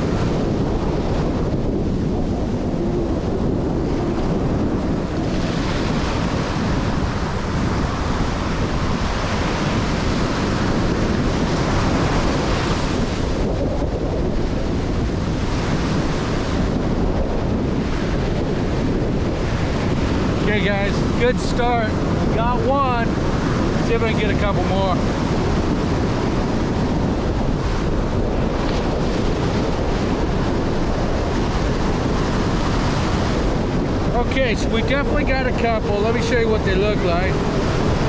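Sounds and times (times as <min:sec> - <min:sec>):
ocean surf breaking on beach: 0:00.0 - 0:38.0
wind buffeting microphone: 0:00.0 - 0:38.0.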